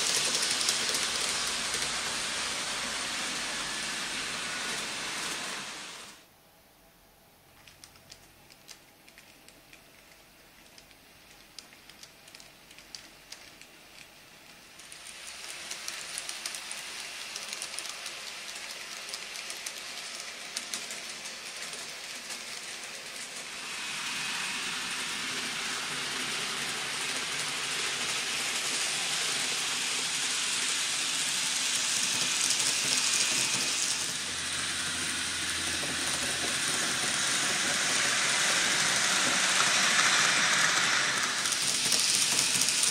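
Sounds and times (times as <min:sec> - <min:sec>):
model train wheels rolling hiss: 0:00.0 - 0:06.3, 0:10.7 - 0:42.9.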